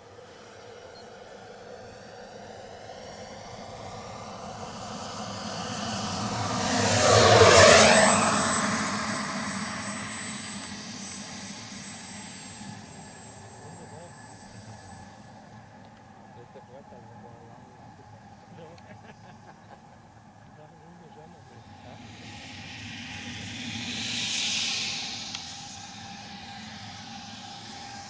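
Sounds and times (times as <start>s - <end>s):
model jet turbine whine: 0.0s - 28.0s.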